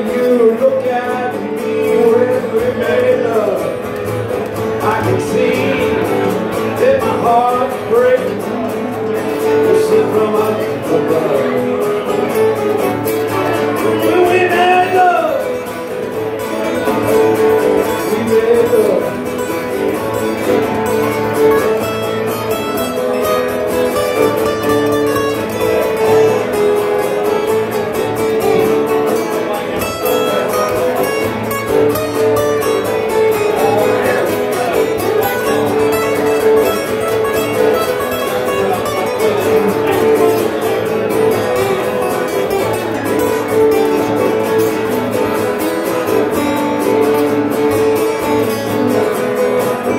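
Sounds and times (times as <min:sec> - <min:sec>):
acoustic guitar playing: 0:00.0 - 0:49.9.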